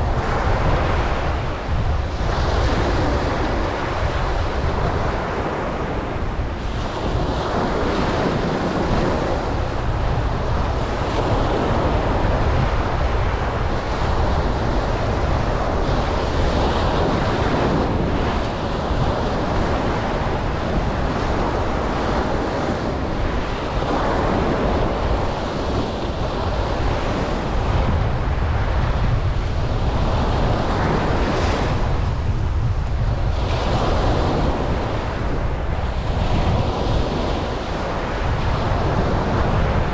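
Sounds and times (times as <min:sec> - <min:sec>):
ocean waves breaking on beach: 0:00.0 - 0:39.9
wind rumbling on microphone: 0:00.0 - 0:39.9.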